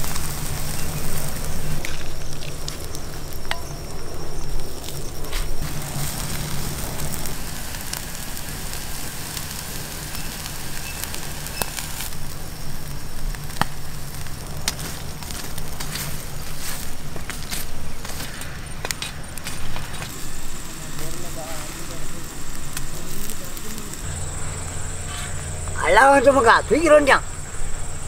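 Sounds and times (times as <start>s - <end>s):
charcoal fire crackling and popping: 0.0s - 28.0s
meat sizzling on grill: 0.0s - 28.0s.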